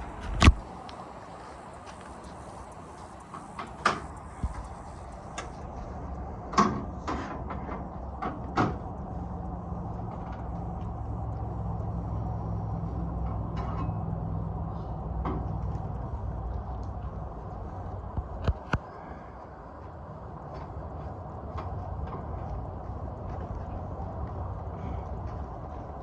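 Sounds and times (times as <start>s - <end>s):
low engine-like hum: 0.0s - 26.0s.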